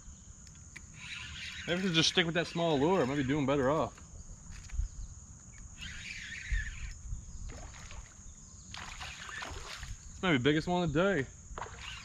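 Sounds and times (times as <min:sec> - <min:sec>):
high insect buzz: 0:00.0 - 0:12.0.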